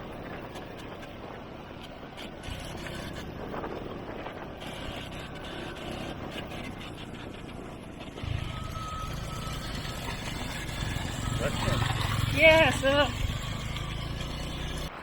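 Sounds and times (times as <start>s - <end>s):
vehicle engine running: 0.0s - 15.0s
wind noise on microphone: 0.0s - 15.0s.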